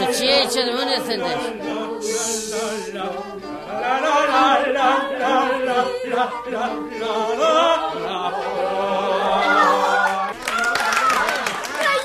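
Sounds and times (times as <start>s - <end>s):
group singing in chorus: 0.0s - 11.4s.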